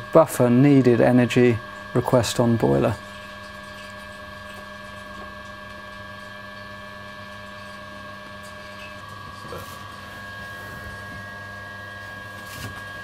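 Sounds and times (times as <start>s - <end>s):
auger motor humming: 0.0s - 13.0s.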